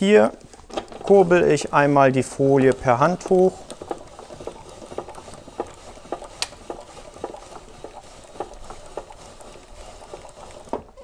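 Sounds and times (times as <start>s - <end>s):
hand crank blind winding rustle: 0.0s - 11.0s.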